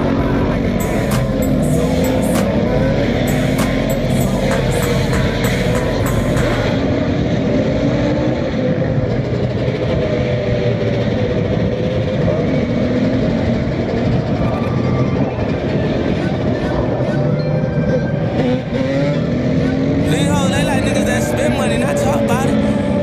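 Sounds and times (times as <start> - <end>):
dirt bike and quad engines revving: 0.0 - 23.0.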